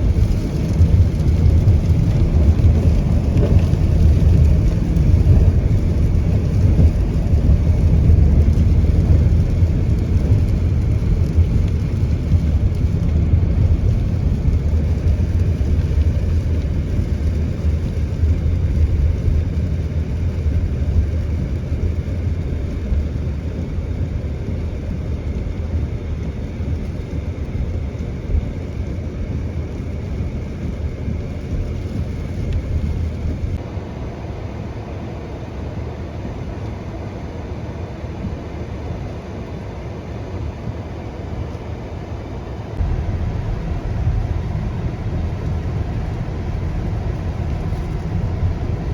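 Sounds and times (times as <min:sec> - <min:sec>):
road and tyre noise: 0:00.0 - 0:48.9.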